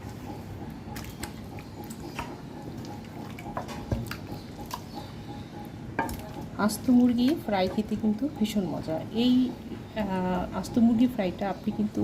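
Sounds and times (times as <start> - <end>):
hands squishing wet marinade: 0.0 - 12.0.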